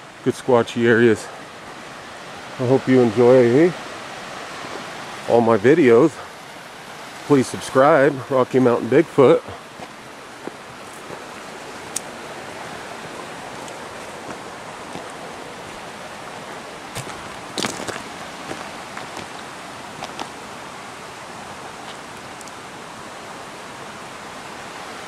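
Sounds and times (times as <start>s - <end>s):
creek rushing: 0.0s - 25.0s.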